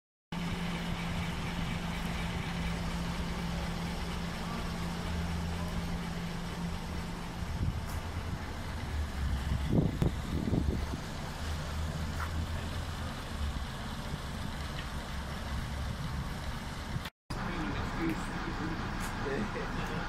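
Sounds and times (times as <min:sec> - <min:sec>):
locomotive engine idling: 0:00.3 - 0:20.0.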